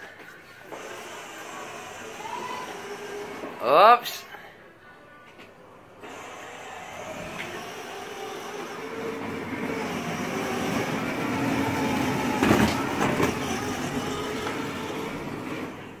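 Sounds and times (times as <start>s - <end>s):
toy car motor and wheels rumbling: 0.7s - 3.8s, 6.0s - 16.0s.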